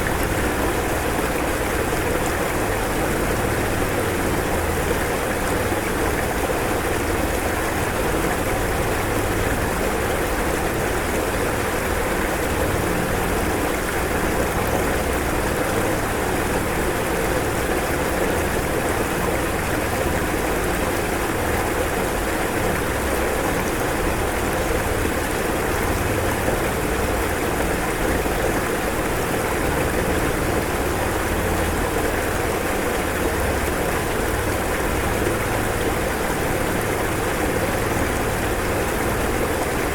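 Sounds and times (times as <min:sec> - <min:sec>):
rushing floodwater roar: 0:00.0 - 0:39.9.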